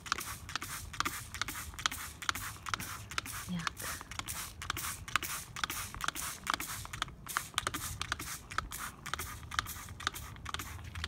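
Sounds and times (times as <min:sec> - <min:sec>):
spray bottle clicking and hissing: 0:00.0 - 0:11.0.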